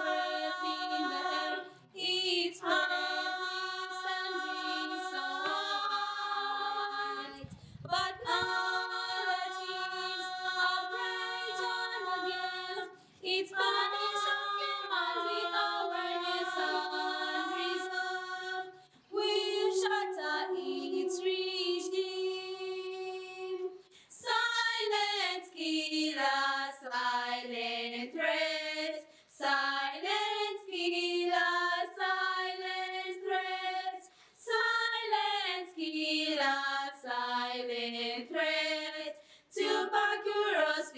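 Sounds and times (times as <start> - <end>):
girls singing a cappella: 0.0 - 40.9.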